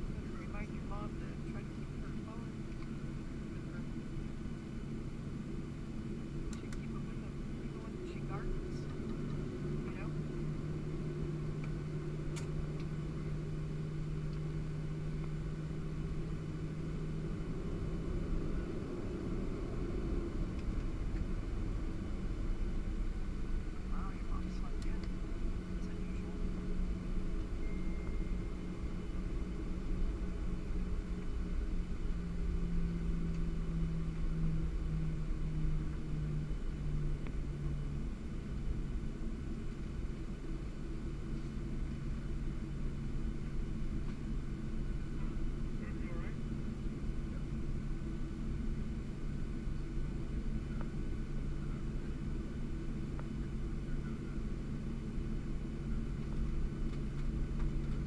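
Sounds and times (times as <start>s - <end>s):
airplane cabin rumble: 0.0s - 58.0s
wavering humming tone: 0.0s - 58.0s.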